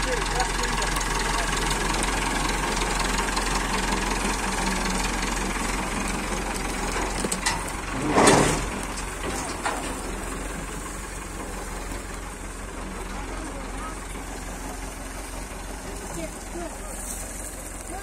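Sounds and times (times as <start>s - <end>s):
tractor diesel engine idling: 0.0s - 18.0s.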